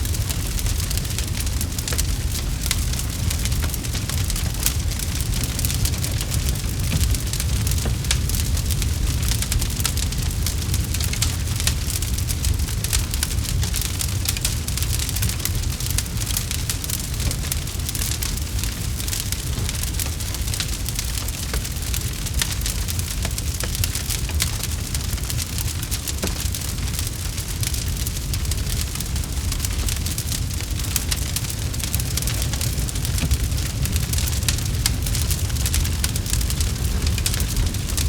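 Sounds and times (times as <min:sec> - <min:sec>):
low rumble of flames: 0:00.0 - 0:38.0
wood crackling and popping: 0:00.0 - 0:38.0.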